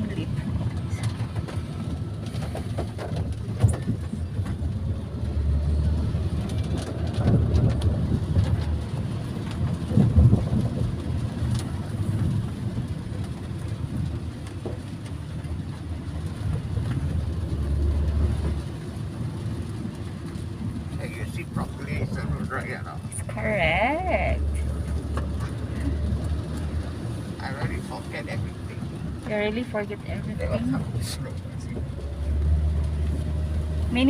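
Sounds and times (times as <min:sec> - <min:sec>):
rain on a car: 0:00.0 - 0:34.0
tyre and engine rumble: 0:00.0 - 0:34.0.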